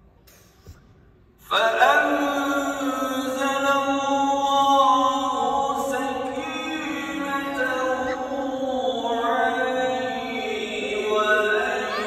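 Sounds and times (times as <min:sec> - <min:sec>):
person chanting recitation: 0:01.4 - 0:12.0.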